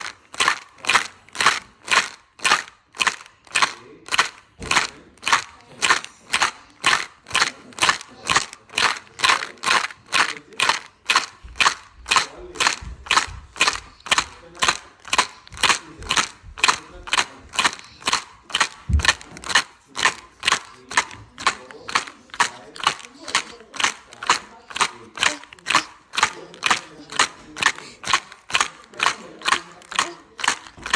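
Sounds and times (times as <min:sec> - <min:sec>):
baby rattle shaking: 0:00.0 - 0:30.9.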